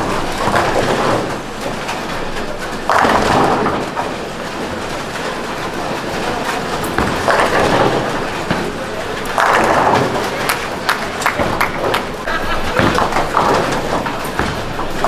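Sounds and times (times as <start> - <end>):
bowling ball rumbling down lane: 0.0 - 15.0
bowling pins clattering: 0.0 - 15.0.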